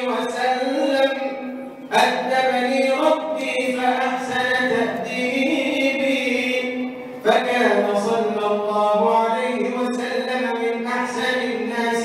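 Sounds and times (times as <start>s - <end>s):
man chanting into a microphone: 0.0s - 12.0s.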